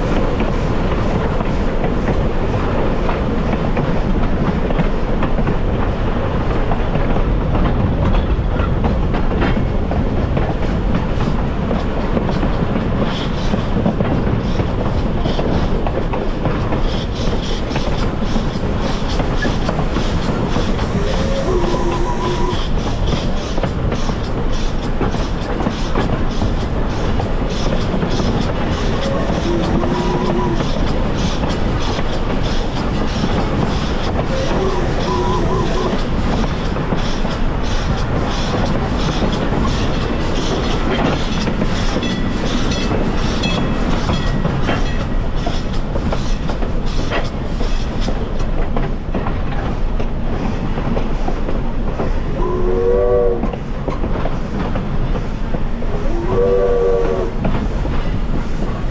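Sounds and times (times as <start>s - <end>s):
clickety-clack over rail joints: 0.0s - 58.9s
train wheels rumbling on rail: 0.0s - 58.9s.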